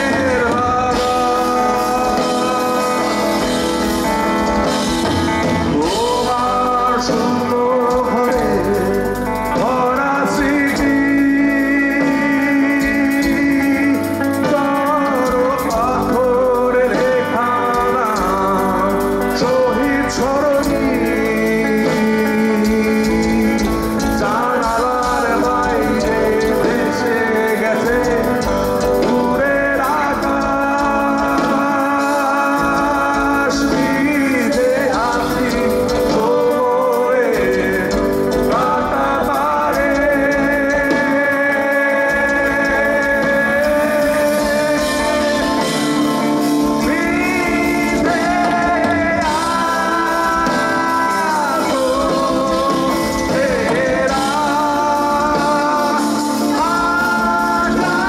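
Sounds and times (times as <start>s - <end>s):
bass guitar: 0.0s - 58.0s
drums: 0.0s - 58.0s
electric guitars: 0.0s - 58.0s.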